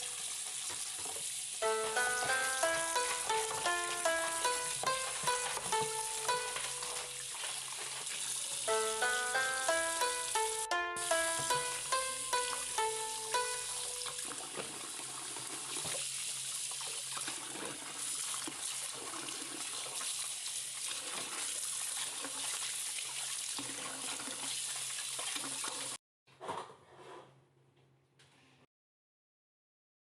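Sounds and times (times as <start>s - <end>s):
tap water running into sink: 0.0s - 26.0s.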